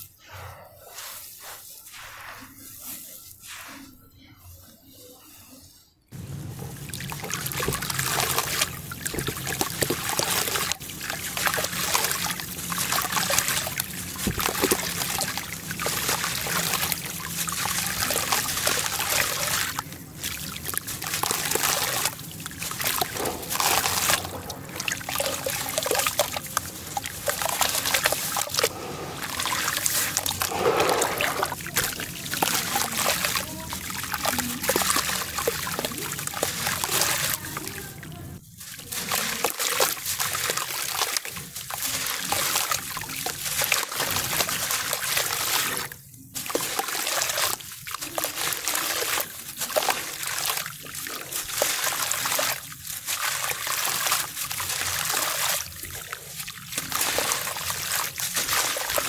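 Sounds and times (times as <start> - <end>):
grit trickling and splashing into water: 6.1 - 59.0.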